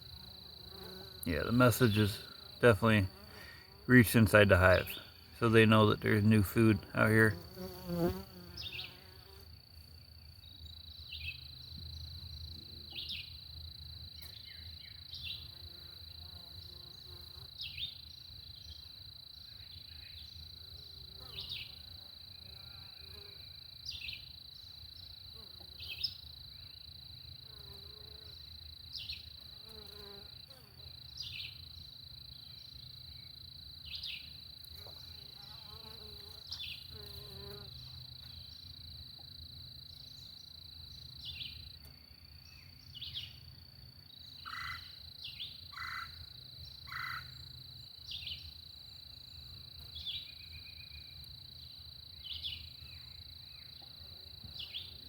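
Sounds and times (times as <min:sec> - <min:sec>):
high-pitched insect trill: 0:00.0 - 0:06.4, 0:07.3 - 0:55.0.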